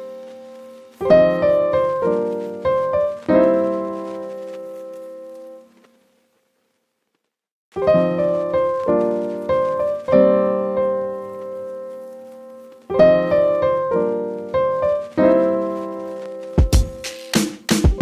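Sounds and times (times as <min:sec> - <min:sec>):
piano music: 0:00.0 - 0:05.8, 0:07.7 - 0:18.0.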